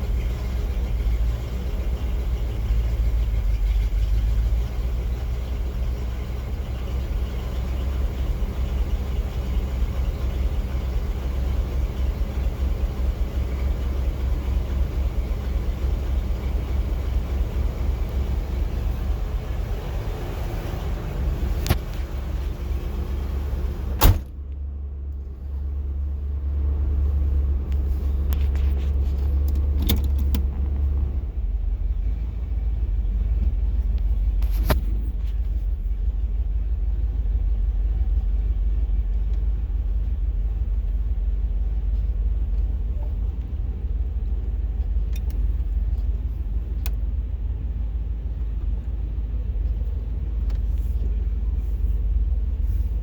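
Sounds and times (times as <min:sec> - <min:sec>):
engine idling with misfire: 0:00.0 - 0:53.0.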